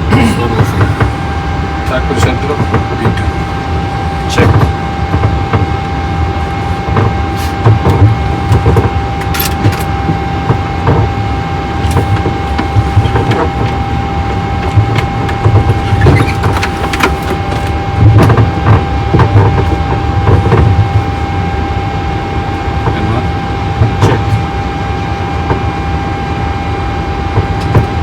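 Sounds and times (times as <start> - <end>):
constant engine whine: 0.0 - 28.0
low engine rumble: 0.0 - 28.0.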